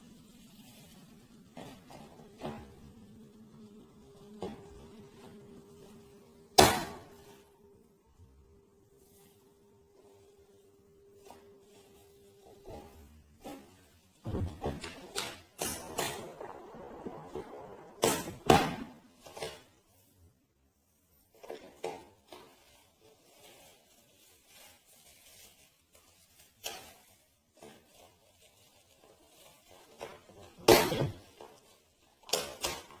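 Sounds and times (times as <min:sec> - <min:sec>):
rustles: 0:00.0 - 0:20.2, 0:21.1 - 0:33.0.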